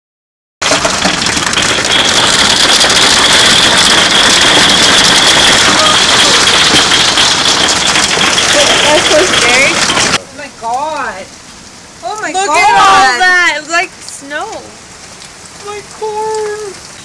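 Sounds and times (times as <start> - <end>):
hail rattling: 0.6 - 11.4, 12.0 - 17.0
heavy rain downpour: 0.6 - 17.0.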